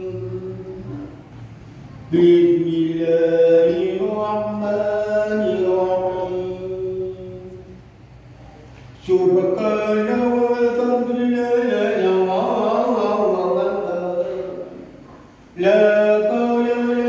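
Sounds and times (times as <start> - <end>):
man chanting call to prayer: 0.0 - 7.9, 9.0 - 17.0.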